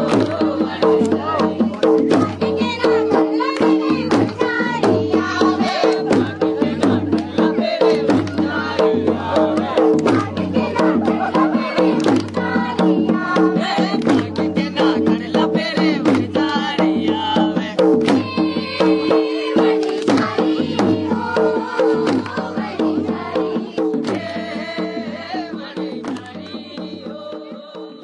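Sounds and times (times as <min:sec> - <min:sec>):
drum beating fast rhythm: 0:00.0 - 0:28.0.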